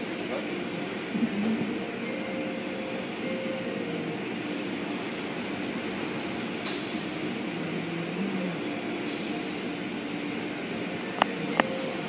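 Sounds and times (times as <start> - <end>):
low motor hum: 0.8 - 12.0.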